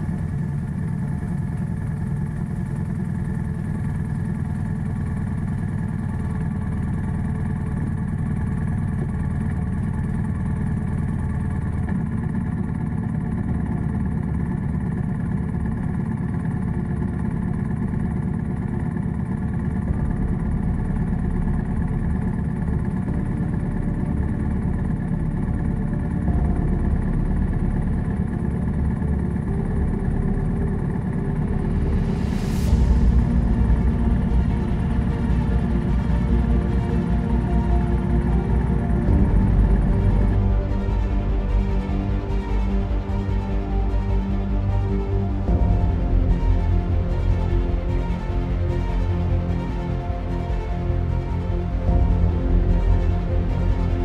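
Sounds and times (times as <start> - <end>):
motorcycle engine idling: 0.0 - 47.1.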